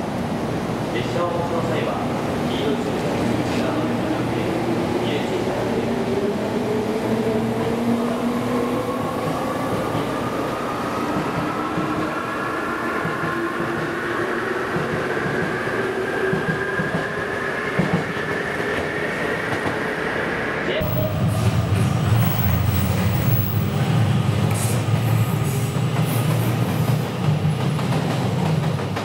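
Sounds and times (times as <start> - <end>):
train wheels rumbling on rails: 0.0 - 20.0, 20.8 - 29.0.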